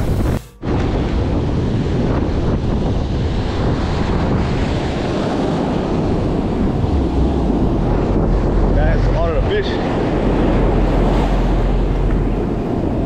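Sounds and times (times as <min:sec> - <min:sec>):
sea surf washing over rocks: 0:00.0 - 0:13.0
wind buffeting microphone: 0:00.0 - 0:13.0.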